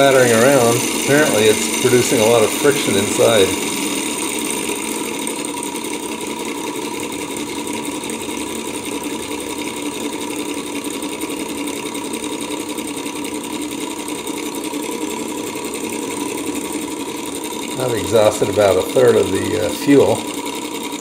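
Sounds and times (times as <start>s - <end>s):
small engine rapid clattering: 0.0s - 21.0s.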